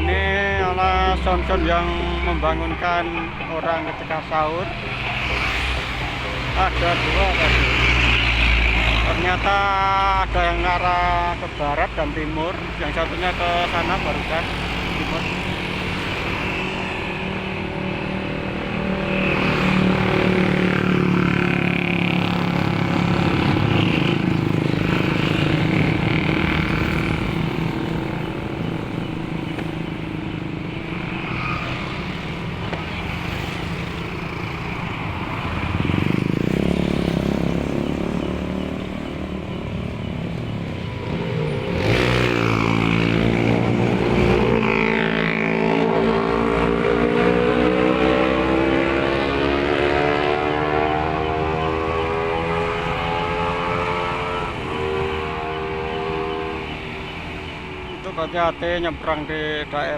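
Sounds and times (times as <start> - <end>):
motorcycles and cars passing: 0.0 - 59.9.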